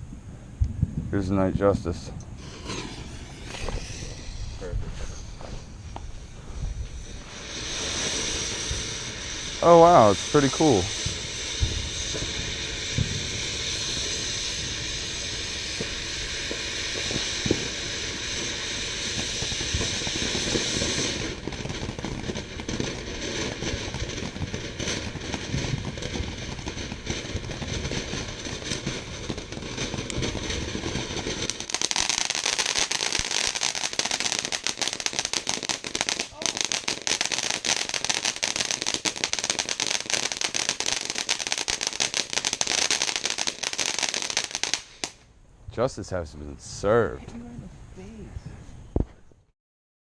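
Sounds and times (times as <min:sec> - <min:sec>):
firework crackling: 0:00.7 - 0:48.2
firework hissing: 0:00.8 - 0:46.1.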